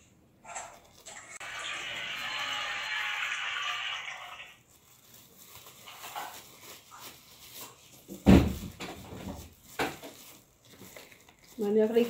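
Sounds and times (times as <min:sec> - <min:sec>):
plastic gloves rustling: 0:00.4 - 0:12.0.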